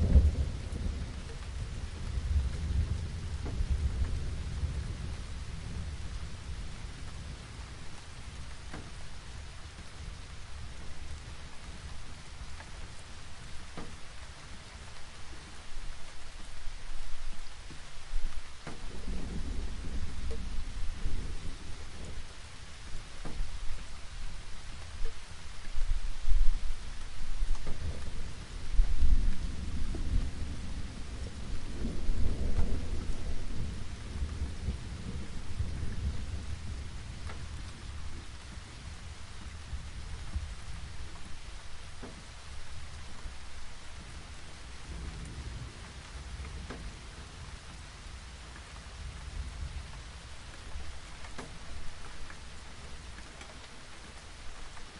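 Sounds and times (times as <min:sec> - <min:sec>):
distant thunder rumble: 0:00.0 - 0:54.9
steady rain: 0:00.0 - 0:54.9.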